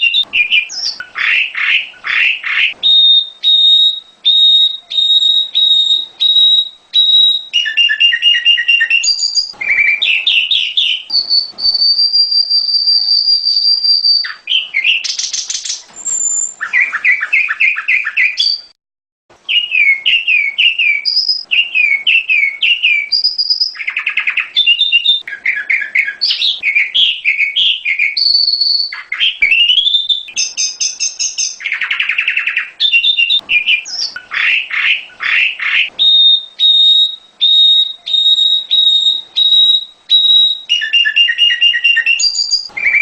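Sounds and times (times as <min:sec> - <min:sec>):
songbird singing: 0:00.0 - 0:43.0.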